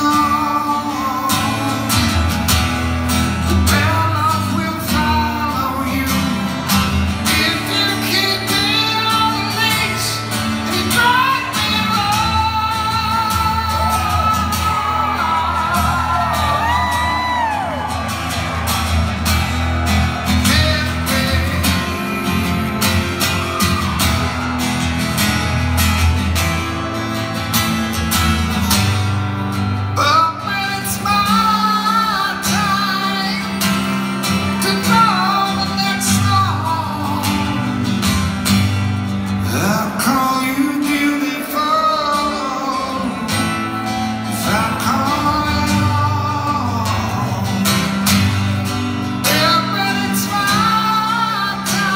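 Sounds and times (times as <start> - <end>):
guitar: 0.0 - 51.9.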